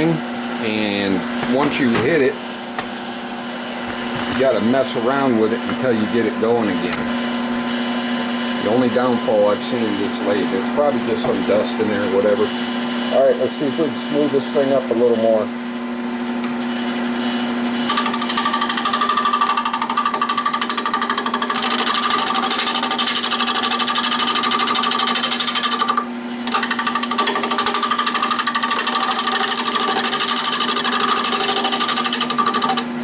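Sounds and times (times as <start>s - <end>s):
wood lathe humming: 0.0s - 33.0s.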